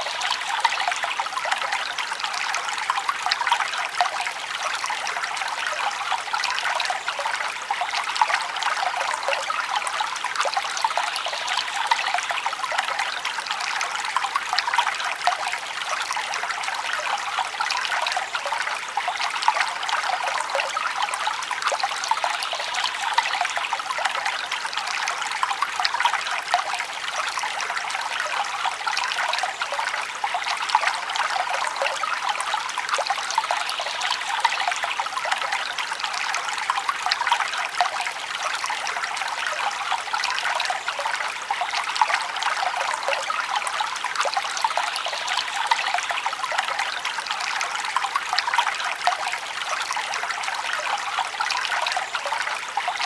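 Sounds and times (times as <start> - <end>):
stream trickling and babbling: 0.0 - 53.0.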